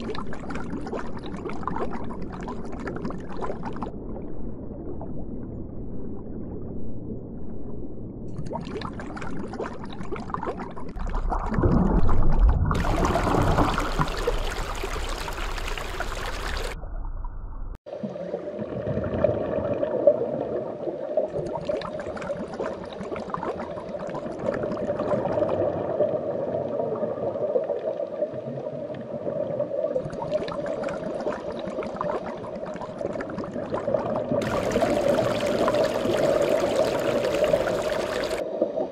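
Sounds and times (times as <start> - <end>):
moving water: 0.0 - 17.0, 17.9 - 38.9.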